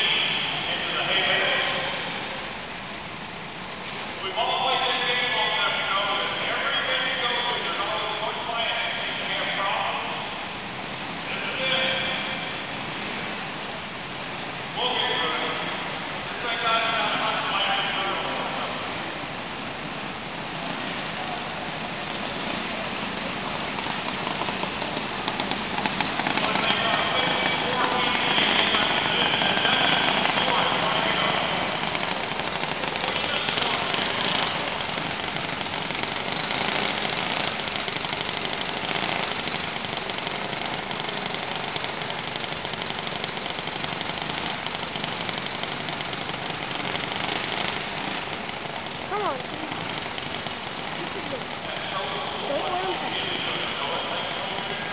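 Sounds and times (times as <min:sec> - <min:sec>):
small kart engines droning: 0:00.0 - 0:54.9.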